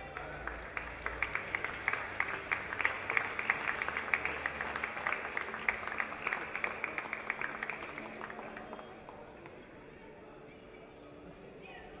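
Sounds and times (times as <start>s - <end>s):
crowd clapping: 0.0s - 9.8s.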